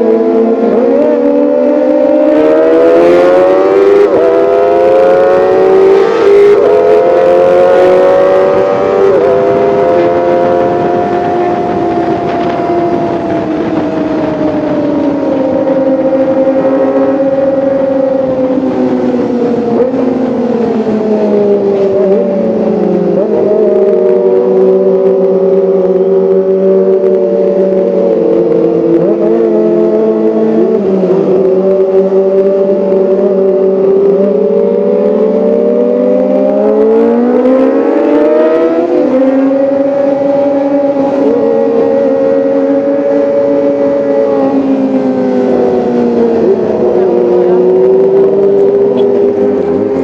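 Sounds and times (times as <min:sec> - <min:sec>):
motorcycle engine high-pitched wail: 0:00.0 - 0:50.0.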